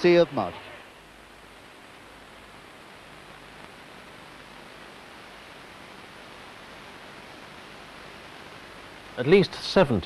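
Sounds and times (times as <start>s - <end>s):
video tape hiss: 0.0s - 10.0s.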